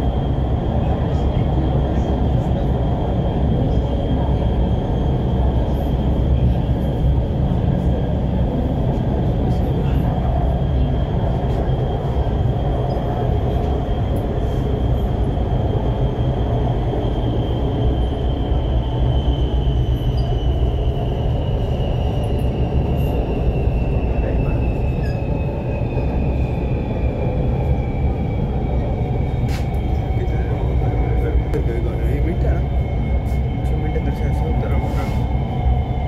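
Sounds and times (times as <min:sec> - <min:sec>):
metro train rumbling and whining: 0:00.0 - 0:36.0.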